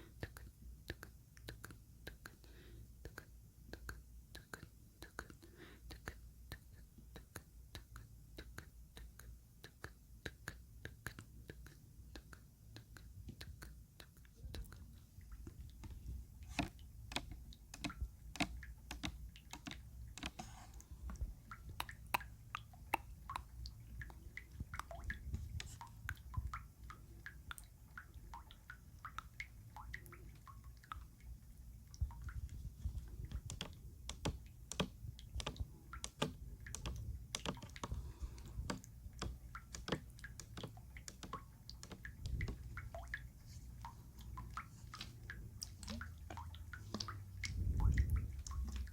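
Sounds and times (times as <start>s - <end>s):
wet clicks and drips: 0.0s - 48.9s.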